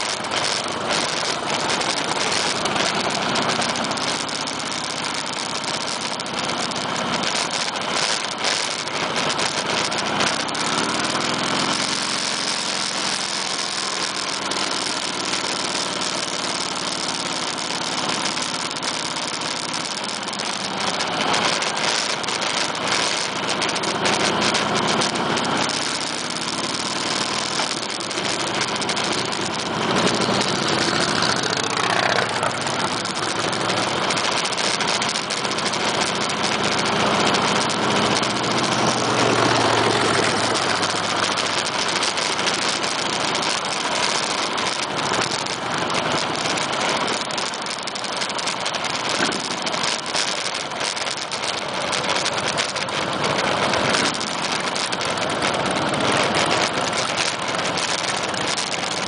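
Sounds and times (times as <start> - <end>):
motorcycle engines running: 0.0 - 59.0
steady rush of noise: 0.0 - 59.0.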